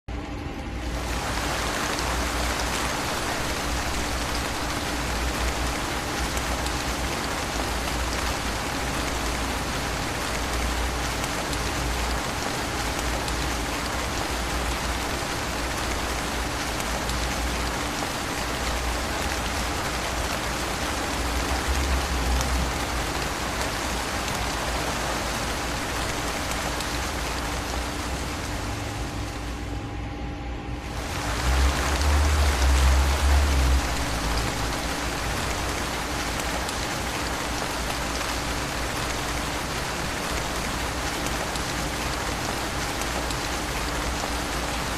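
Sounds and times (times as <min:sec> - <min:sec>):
faint steady hum: 0:00.1 - 0:44.9
steady rain: 0:00.2 - 0:30.0, 0:30.8 - 0:44.9.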